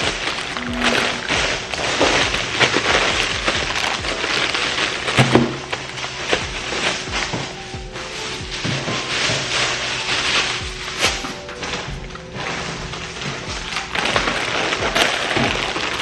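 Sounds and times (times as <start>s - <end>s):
background music: 0.0s - 16.0s
plastic bags rustling and crinkling: 0.0s - 16.0s.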